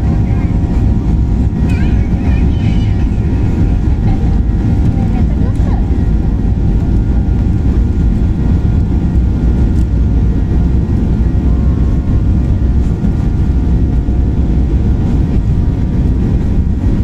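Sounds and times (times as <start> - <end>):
airliner cabin engine rumble: 0.0 - 17.0
faint constant hum: 0.0 - 17.0.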